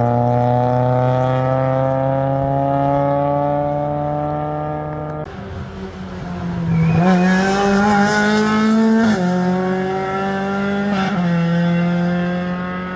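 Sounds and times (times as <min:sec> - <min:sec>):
rally car engine under load: 0:00.0 - 0:12.9.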